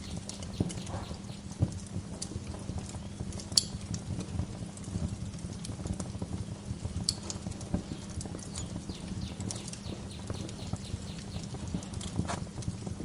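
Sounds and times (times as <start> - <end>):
fire crackling: 0.0 - 13.0
low fire rumble: 0.0 - 13.0
sharp fire pops: 0.2 - 13.0.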